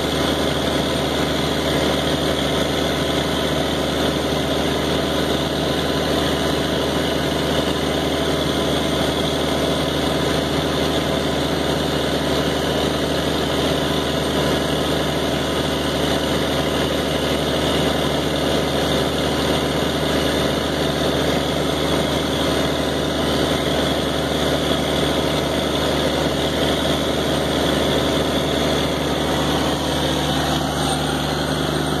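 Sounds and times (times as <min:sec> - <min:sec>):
pump engine droning: 0:00.0 - 0:32.0.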